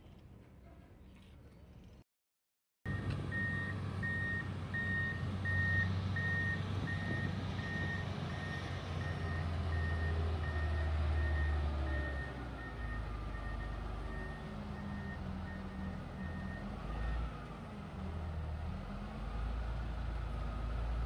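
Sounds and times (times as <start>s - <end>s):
diesel engine droning: 2.9s - 21.0s.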